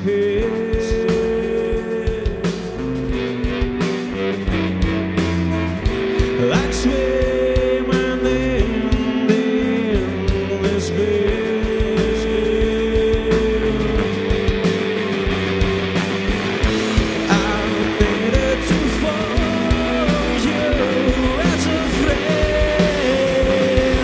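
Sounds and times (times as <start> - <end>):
man singing: 0.0 - 3.5, 6.2 - 15.2, 16.6 - 24.0
bass guitar: 0.0 - 24.0
drum beat: 0.0 - 24.0
electric guitar: 0.0 - 24.0.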